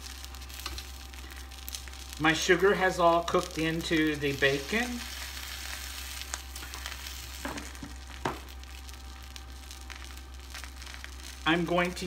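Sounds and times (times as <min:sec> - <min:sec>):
bacon sizzling on a griddle: 0:00.0 - 0:12.0.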